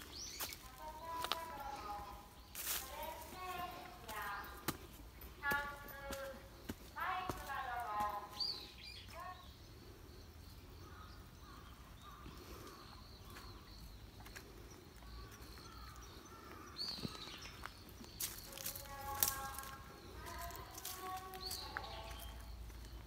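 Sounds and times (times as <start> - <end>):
distant bird calls: 0.0 - 23.0
faint outdoor ambience: 0.0 - 23.0.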